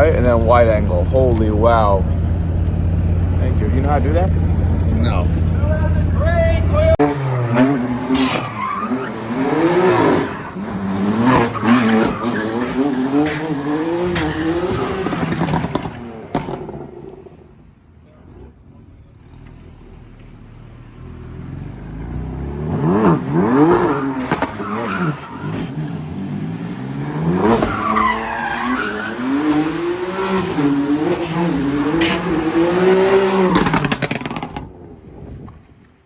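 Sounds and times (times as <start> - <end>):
car engine revving: 0.0 - 17.5, 18.2 - 34.8.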